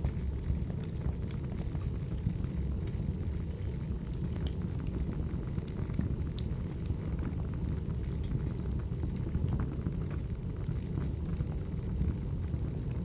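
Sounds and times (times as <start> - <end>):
firewood crackling and popping: 0.0 - 13.0
low rumble of flames: 0.0 - 13.0.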